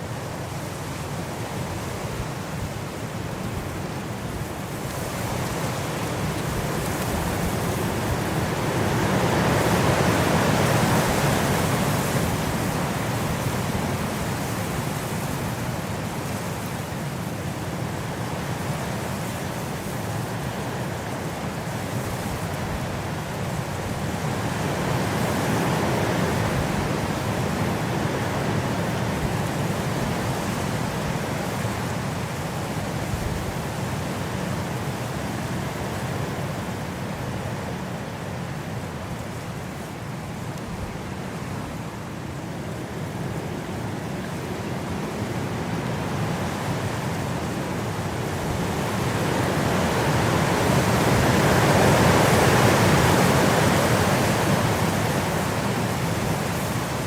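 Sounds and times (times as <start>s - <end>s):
gusting wind: 0.0s - 57.0s.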